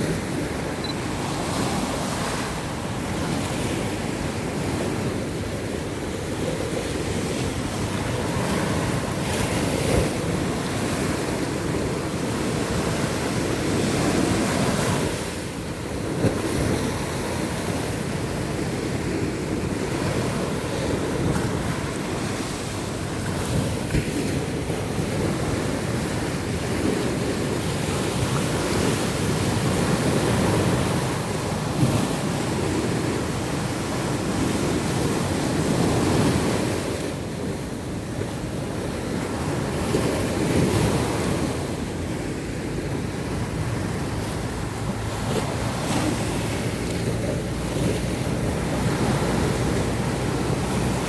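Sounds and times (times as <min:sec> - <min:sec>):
surf washing onto beach: 0:00.0 - 0:51.0
wind on microphone: 0:00.0 - 0:51.0.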